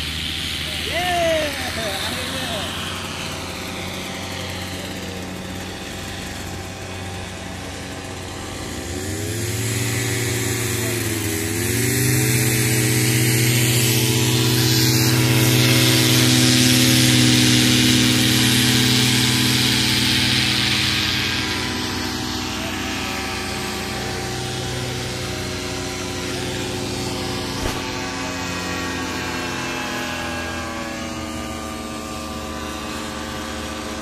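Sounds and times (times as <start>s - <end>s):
paramotor engine and propeller: 0.0s - 34.0s.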